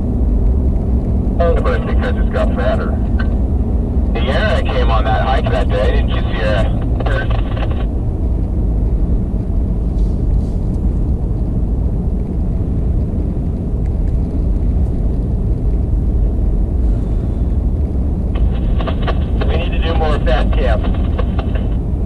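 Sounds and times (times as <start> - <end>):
vehicle road and engine rumble: 0.0 - 22.0.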